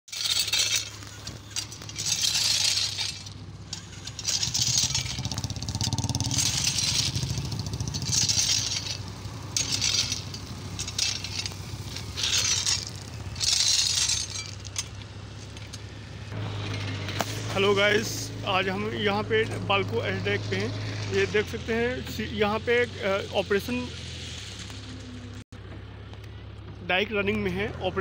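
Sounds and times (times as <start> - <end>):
engine humming: 0.1 - 28.0.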